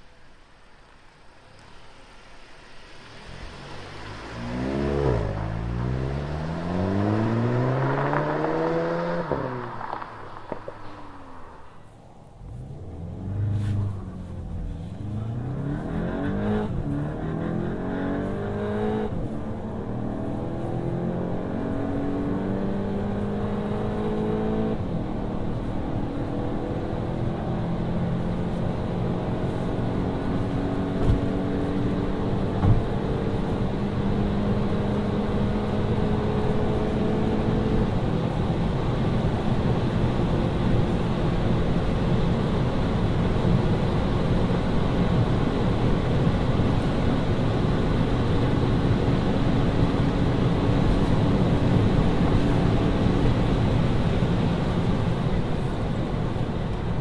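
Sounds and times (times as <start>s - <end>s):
car engine accelerating hard: 3.0s - 57.0s.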